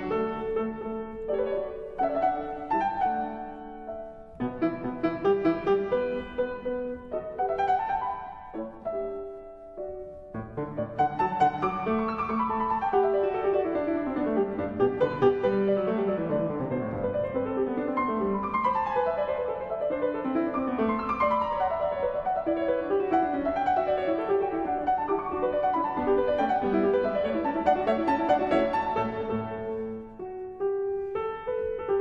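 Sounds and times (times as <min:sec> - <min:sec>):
solo classical piano: 0:00.0 - 0:32.0.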